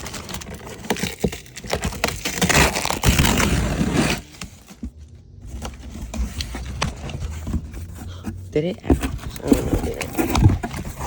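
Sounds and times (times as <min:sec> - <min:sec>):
cardboard packaging crackling and rustling: 0:00.0 - 0:11.0.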